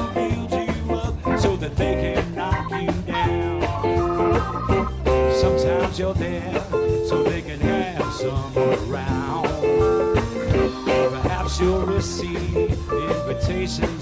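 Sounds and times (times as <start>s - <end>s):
bending guitar melody notes: 0.0s - 14.0s
live rock band playing: 0.0s - 14.0s.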